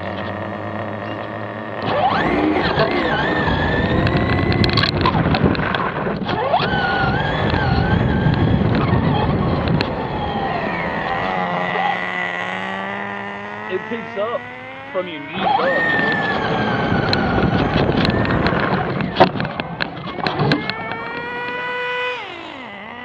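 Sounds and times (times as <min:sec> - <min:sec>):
remote control car motor whine: 0:00.0 - 0:23.0.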